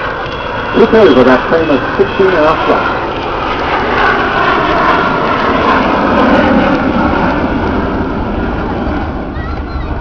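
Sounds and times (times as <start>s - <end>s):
jet aircraft roaring past: 0.0s - 10.0s.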